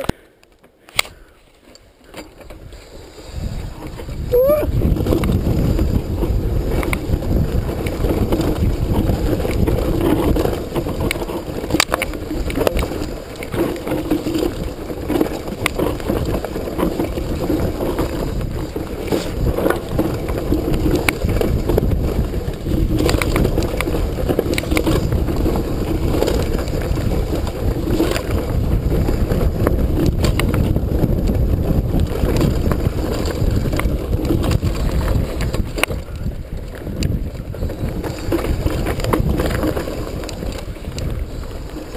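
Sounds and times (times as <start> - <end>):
bike clicking and rattling: 0.0 - 41.9
tyres on dirt and stones: 0.0 - 41.9
wind on microphone: 2.5 - 41.9.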